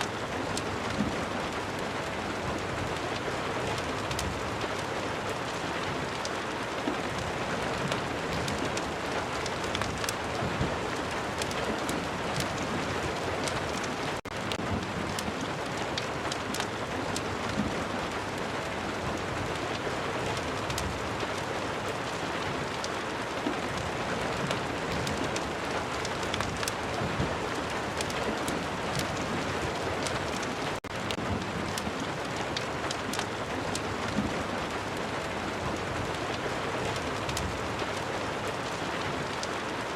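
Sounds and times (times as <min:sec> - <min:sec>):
fireplace crackling: 0:00.0 - 0:39.8
heavy rain: 0:00.0 - 0:39.9.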